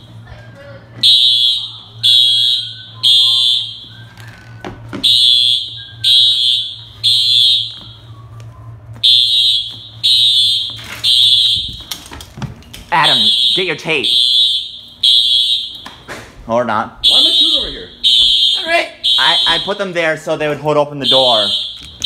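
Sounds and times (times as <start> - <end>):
fire alarm beeping: 1.0 - 12.2, 13.0 - 16.1, 17.0 - 22.0.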